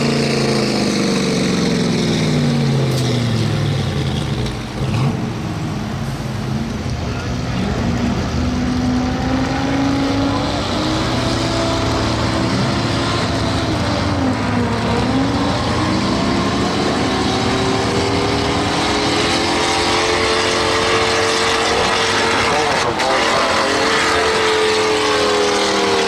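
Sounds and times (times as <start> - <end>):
truck engine revving high: 0.0 - 26.0.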